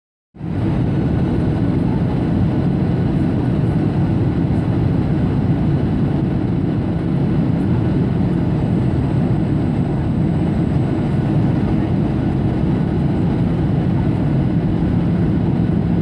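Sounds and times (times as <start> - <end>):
airplane engine drone: 0.4 - 16.0.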